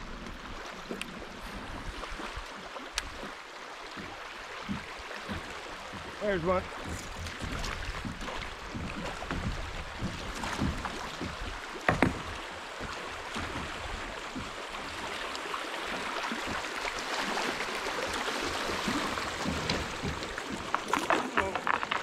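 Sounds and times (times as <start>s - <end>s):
creek water rushing over gravel: 0.0s - 22.0s.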